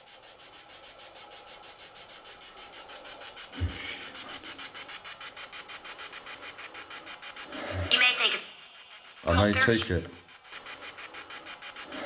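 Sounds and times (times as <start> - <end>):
pulsing radio hiss: 0.0 - 12.0.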